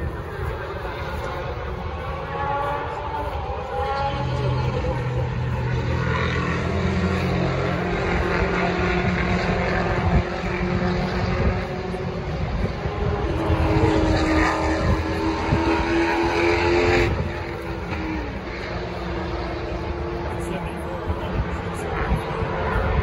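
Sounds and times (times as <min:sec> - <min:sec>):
constant low rumble: 0:00.0 - 0:23.0
distant engine drone: 0:00.0 - 0:23.0.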